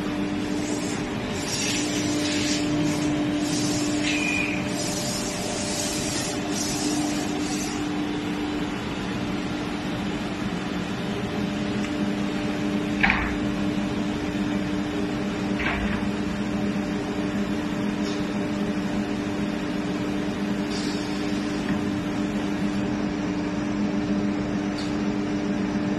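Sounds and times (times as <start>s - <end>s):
machine running with steady hum: 0.0s - 25.9s.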